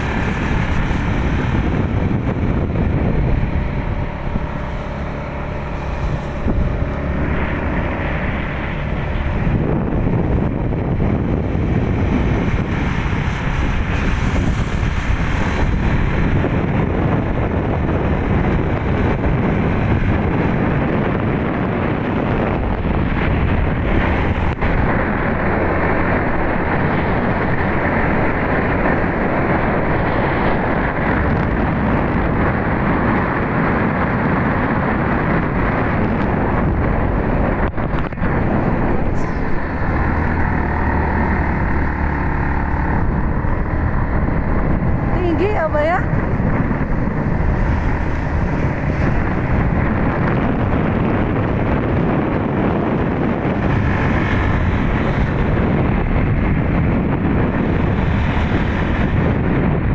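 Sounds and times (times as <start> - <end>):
motorbike engine: 0.0 - 59.9
tyres on road: 0.0 - 59.9
wind rushing on microphone: 0.0 - 59.9.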